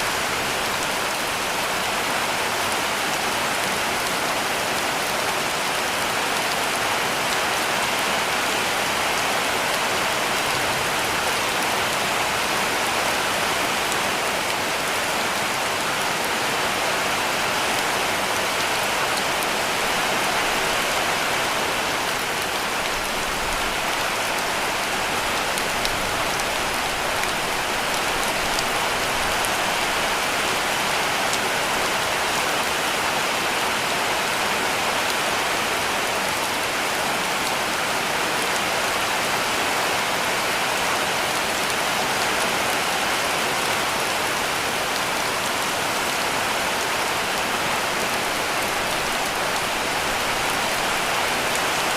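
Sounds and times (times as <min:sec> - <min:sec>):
heavy rain on a roof: 0:00.0 - 0:51.9.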